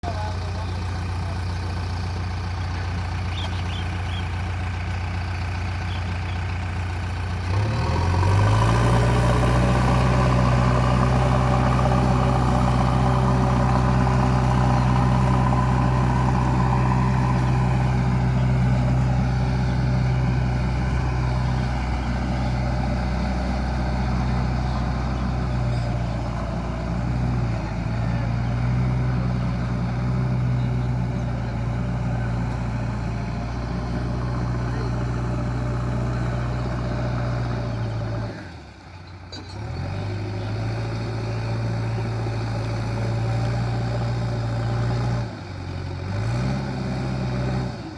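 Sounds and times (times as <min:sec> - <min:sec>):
diesel engine running and revving: 0:00.0 - 0:47.9.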